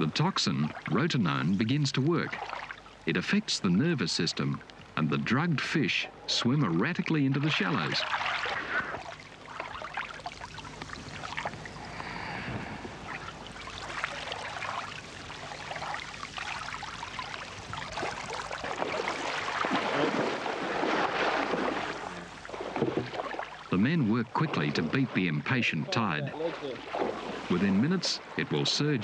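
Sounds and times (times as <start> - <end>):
shallow water splashing: 0.0 - 29.0.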